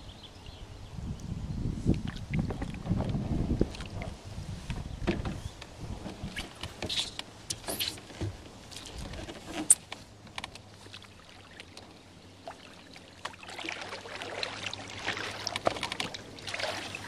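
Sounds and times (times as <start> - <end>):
water lapping around hull: 1.8 - 17.0.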